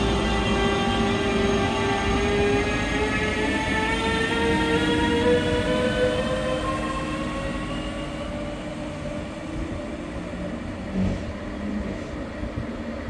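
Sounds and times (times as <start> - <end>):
electric locomotive drive whine: 0.0 - 13.0
train rumble: 0.0 - 13.0.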